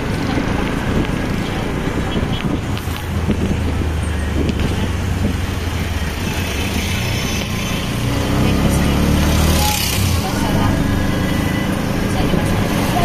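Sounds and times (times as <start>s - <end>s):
auto-rickshaw engine running: 0.0s - 13.0s
town traffic: 0.0s - 13.0s.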